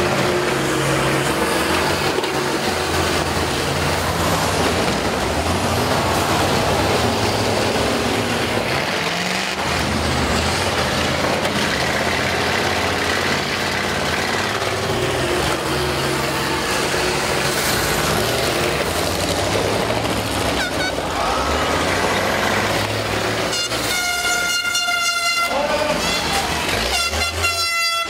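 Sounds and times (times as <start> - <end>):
bus engines revving: 0.0 - 28.0.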